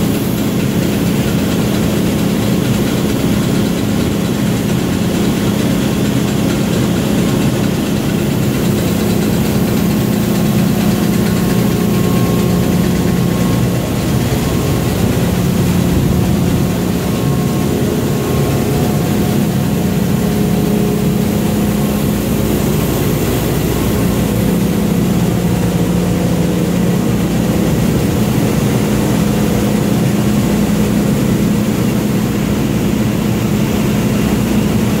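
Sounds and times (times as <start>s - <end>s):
printing press machine drone: 0.0s - 35.0s.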